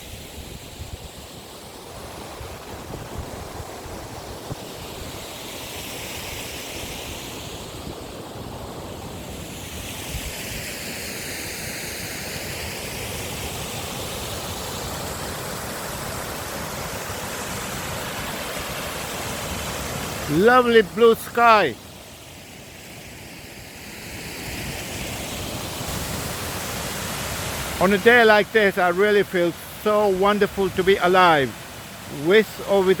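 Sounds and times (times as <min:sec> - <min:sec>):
waterfall rushing water: 0:00.0 - 0:33.0.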